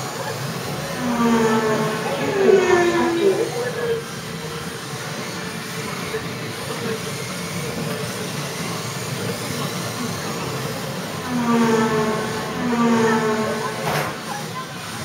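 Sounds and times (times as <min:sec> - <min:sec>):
motor whines: 0:00.0 - 0:08.0, 0:08.6 - 0:14.2
small motors and tyres hissing: 0:00.0 - 0:15.0.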